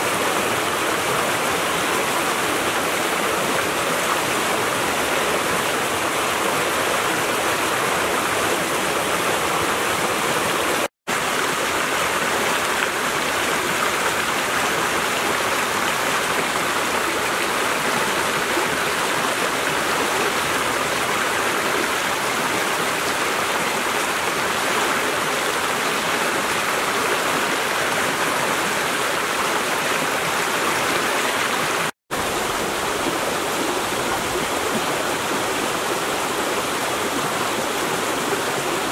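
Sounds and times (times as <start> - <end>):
creek rushing over rocks: 0.0 - 38.9.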